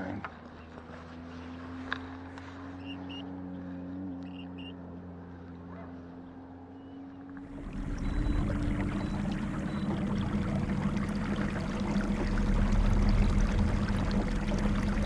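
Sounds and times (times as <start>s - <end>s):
boat motor humming: 0.0s - 15.0s
water splashing along hull: 0.1s - 15.0s.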